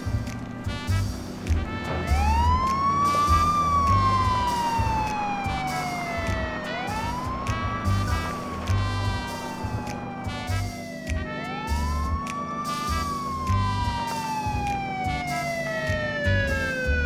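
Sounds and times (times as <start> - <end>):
music with steady beat: 0.0 - 17.0
police siren wailing: 0.4 - 17.0.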